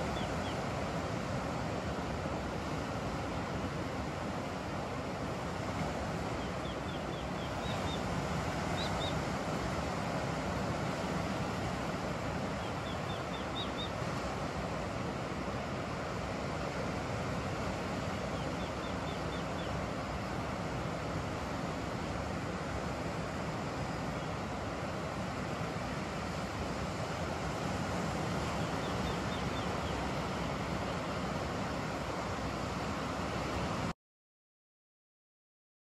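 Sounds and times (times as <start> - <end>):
distant surf: 0.0 - 33.9.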